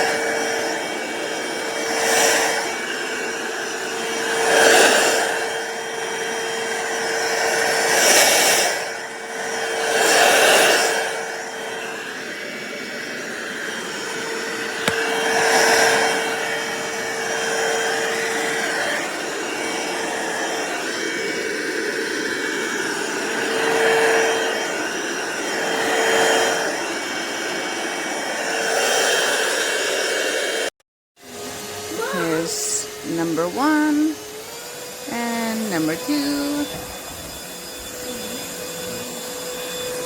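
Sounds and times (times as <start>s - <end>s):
stick vacuum cleaner running: 0.0s - 40.0s.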